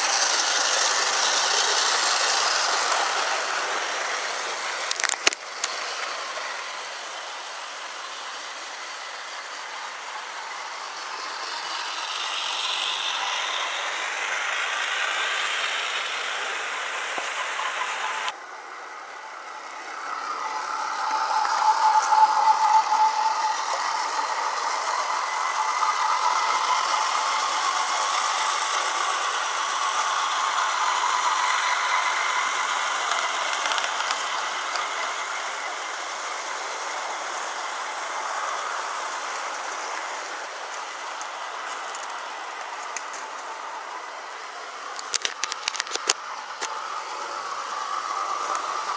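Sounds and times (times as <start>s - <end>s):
faint steady whine: 0.0s - 48.9s
model train wheels rattling: 0.0s - 48.9s.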